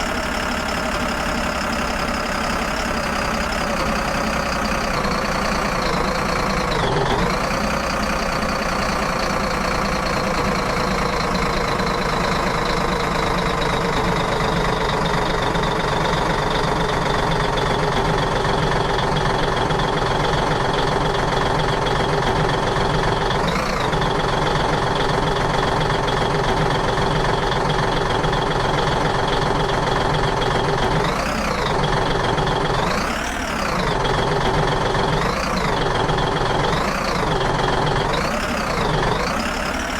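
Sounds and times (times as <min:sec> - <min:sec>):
heavy vehicle engine idling: 0:00.0 - 0:39.9.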